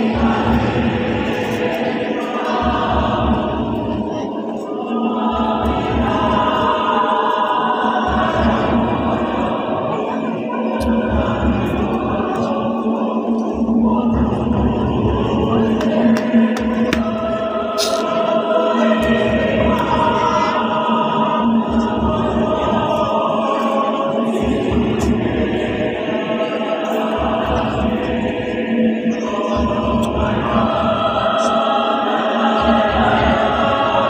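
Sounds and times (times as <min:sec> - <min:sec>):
choir singing in harmony: 0:00.0 - 0:34.0.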